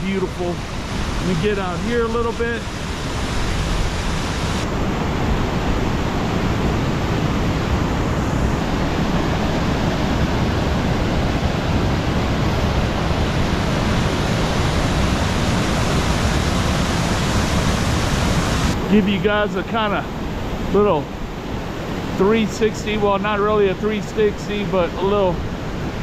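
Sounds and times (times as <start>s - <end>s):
waterfall rushing: 0.0s - 23.1s.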